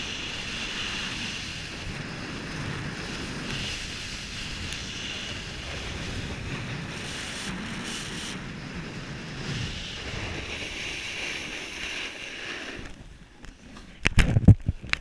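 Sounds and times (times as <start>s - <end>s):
snowboard scraping over snow: 0.0s - 14.0s
wind rushing over microphone: 0.0s - 15.0s.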